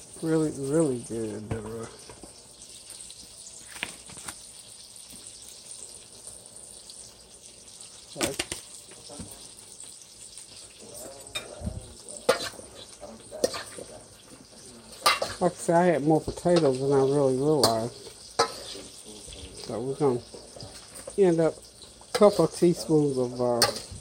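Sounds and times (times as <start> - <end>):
butter sizzling in a skillet: 0.0 - 24.0.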